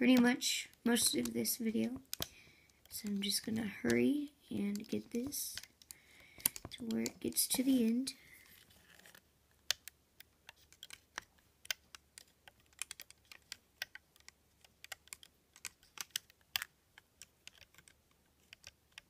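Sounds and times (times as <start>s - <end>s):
plastic hook clicking on pegs: 1.0s - 7.7s, 9.6s - 19.0s.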